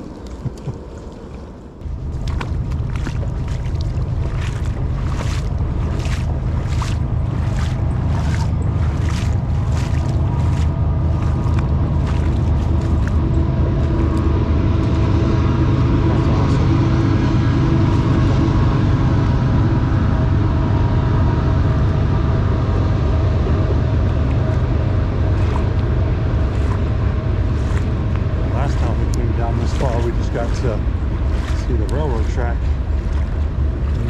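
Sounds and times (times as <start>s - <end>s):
droning hum: 0.0s - 34.0s
train rumbling past: 0.0s - 34.0s.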